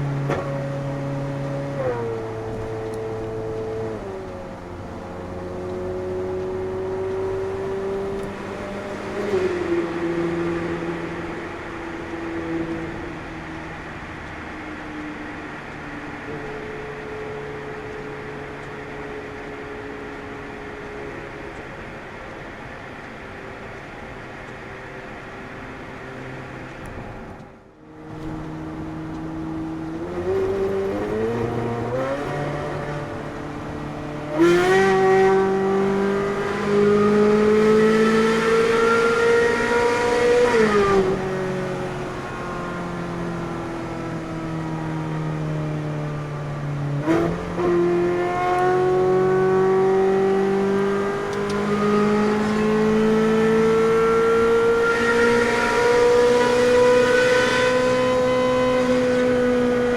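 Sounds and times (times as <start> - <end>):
sports car engine accelerating: 0.0 - 59.9.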